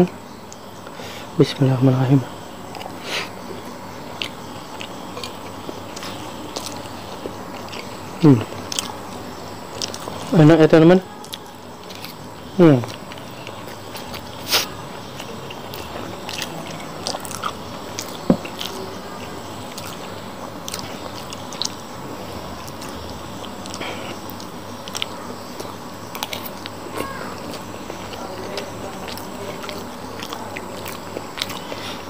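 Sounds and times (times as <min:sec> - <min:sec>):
person chewing food: 0:02.7 - 0:10.4, 0:11.2 - 0:32.0.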